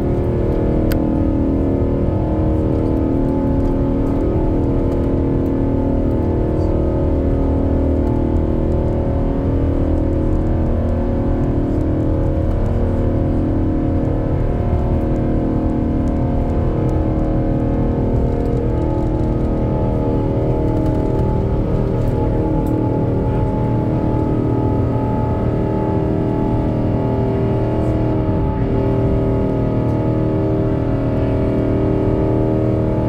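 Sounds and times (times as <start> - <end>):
jet engines at takeoff power: 0.0 - 33.0.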